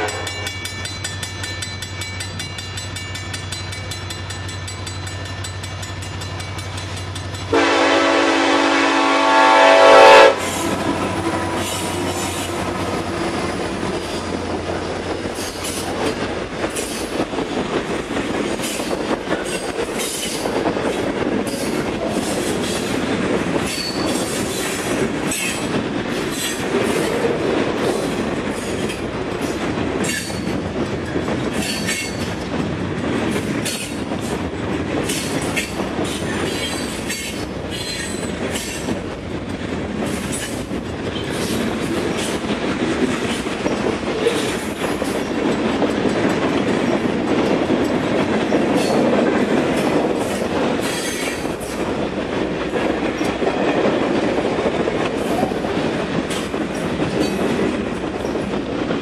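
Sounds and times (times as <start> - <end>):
train wheels rumbling and clattering: 0.0 - 59.0.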